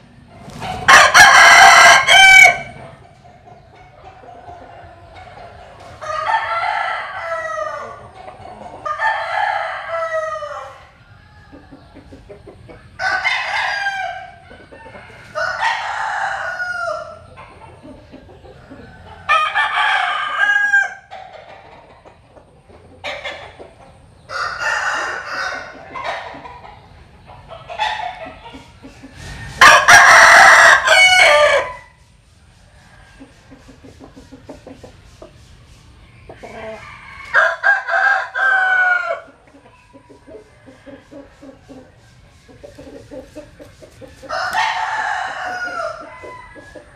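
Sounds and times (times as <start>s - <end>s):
roosters crowing: 0.0s - 3.2s, 3.8s - 22.2s, 22.8s - 35.0s, 36.1s - 46.9s.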